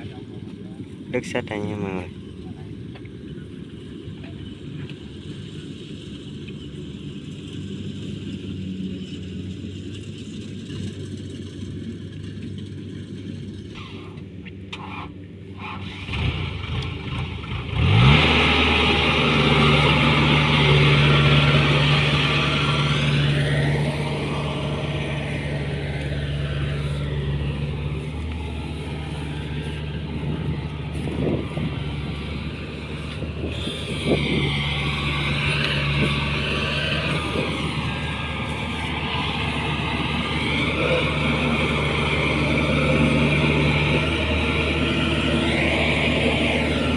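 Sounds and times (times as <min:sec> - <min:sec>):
diesel engine idling and revving: 0:00.0 - 0:46.9.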